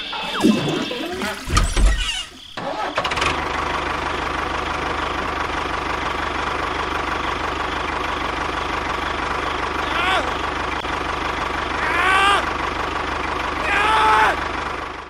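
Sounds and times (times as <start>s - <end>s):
small engine idling: 2.0s - 15.0s.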